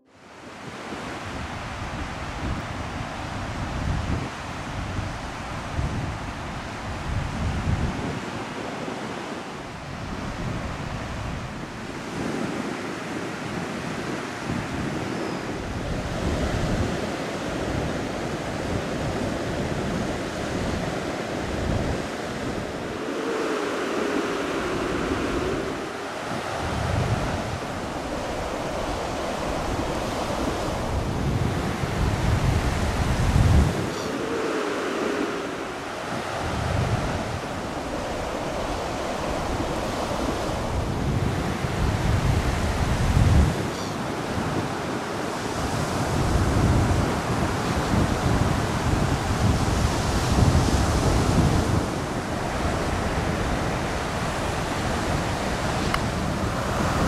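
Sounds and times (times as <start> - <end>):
surf washing on sandy shore: 0.0 - 57.0
wind gusting on microphone: 0.0 - 57.0.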